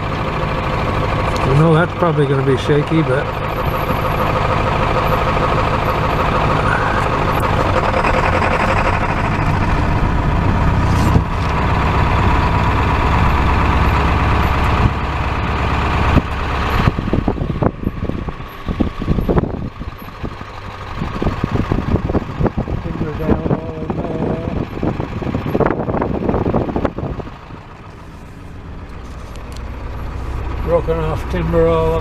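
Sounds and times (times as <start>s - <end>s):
pickup truck engine: 0.0s - 32.0s.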